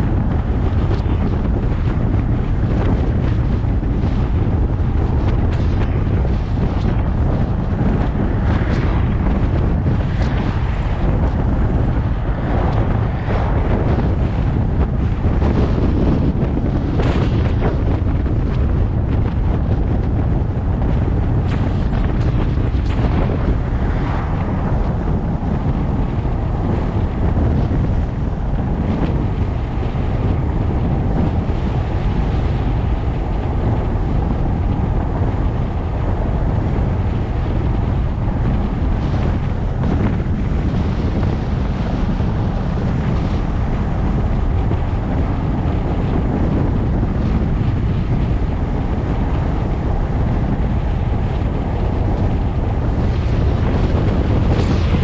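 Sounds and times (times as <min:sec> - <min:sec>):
car road rumble: 0:00.0 - 0:55.0
wind rushing over microphone: 0:00.0 - 0:55.0.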